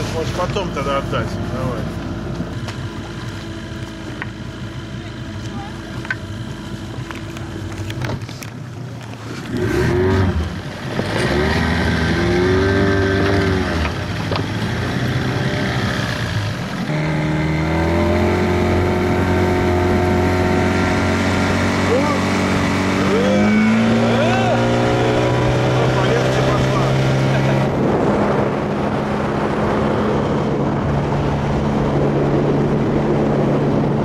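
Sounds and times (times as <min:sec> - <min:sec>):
outboard motor revving: 0:00.0 - 0:34.0.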